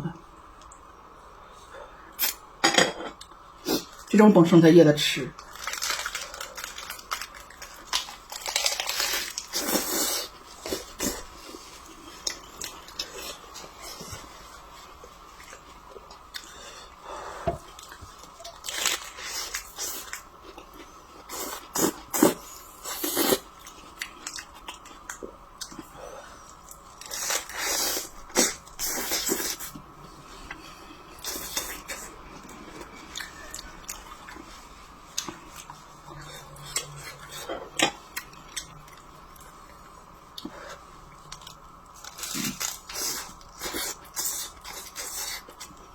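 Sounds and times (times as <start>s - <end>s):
chewing and crunching food: 5.4s - 17.0s, 17.6s - 29.8s, 30.4s - 45.9s.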